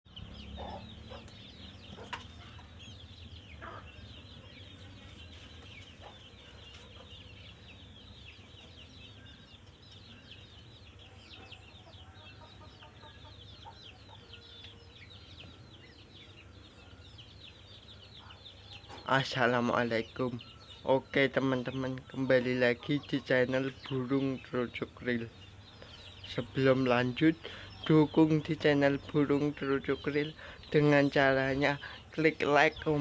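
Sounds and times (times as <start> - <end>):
small birds chirping: 0.1 - 33.0.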